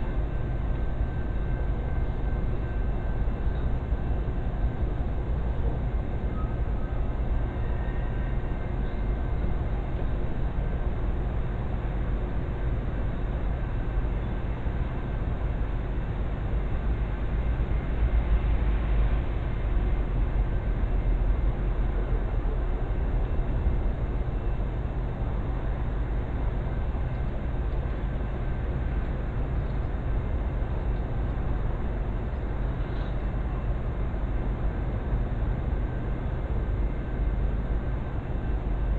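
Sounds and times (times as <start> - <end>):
faint steady whine: 0.0 - 38.9.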